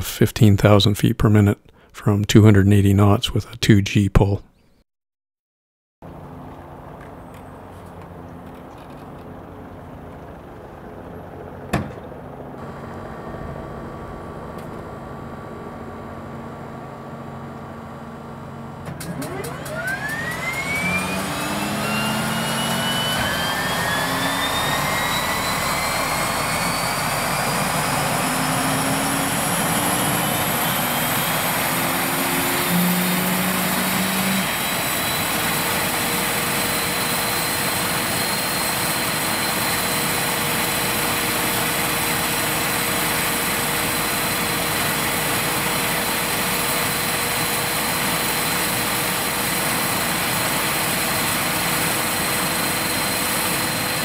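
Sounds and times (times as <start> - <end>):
turbine whine: 6.0 - 54.0.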